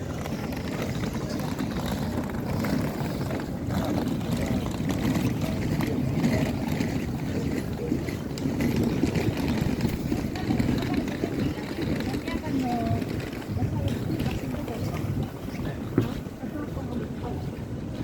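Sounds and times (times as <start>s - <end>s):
faint voices of passersby: 0.0s - 18.0s
traffic rumble: 0.0s - 18.0s.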